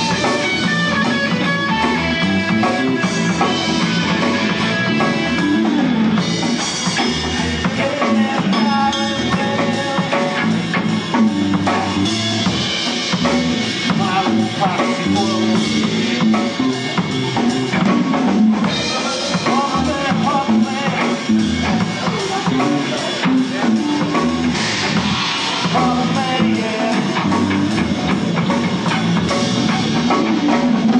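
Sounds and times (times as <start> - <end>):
drum kit beat: 0.0 - 30.9
rock music: 0.0 - 30.9.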